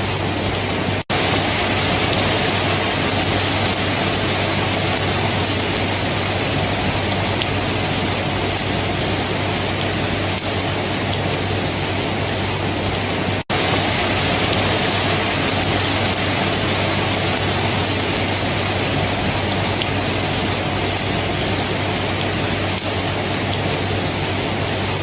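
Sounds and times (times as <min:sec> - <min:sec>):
heavy rain falling: 0:00.0 - 0:25.0
rain drops ticking: 0:00.0 - 0:25.0.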